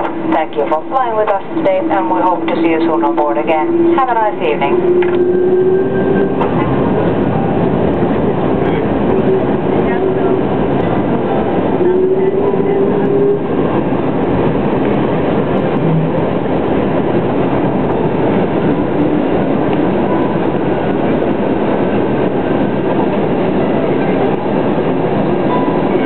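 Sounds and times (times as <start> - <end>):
jet engines droning: 0.0 - 26.0.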